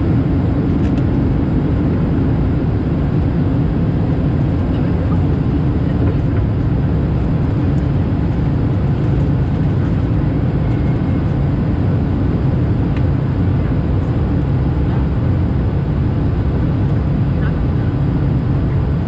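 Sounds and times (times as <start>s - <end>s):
airplane cabin noise in flight: 0.0s - 19.0s.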